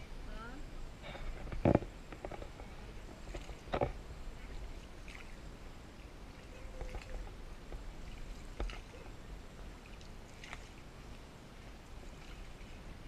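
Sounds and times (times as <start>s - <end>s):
paddle strokes: 1.2s - 13.0s
water lapping: 2.1s - 13.0s.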